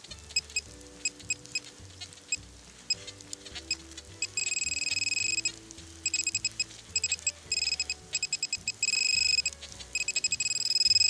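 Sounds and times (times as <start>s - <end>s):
pinpointer probe beeping: 0.3s - 1.7s, 2.3s - 11.0s.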